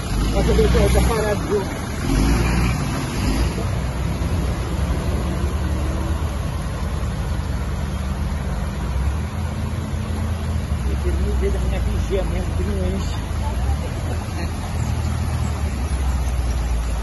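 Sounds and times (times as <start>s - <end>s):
car and lorry engines running: 0.0s - 17.0s
water churned by tyres: 0.0s - 17.0s.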